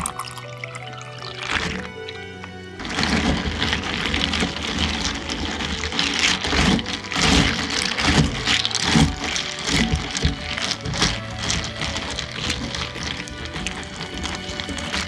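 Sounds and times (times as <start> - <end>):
ice cubes clinking in cup: 0.0 - 15.0.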